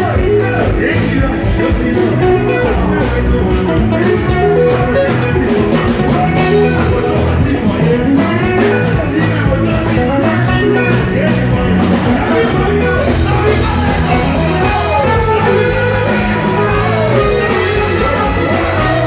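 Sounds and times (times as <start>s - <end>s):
electric guitar: 0.0s - 19.0s
live band playing: 0.0s - 19.0s
person singing: 0.0s - 19.0s.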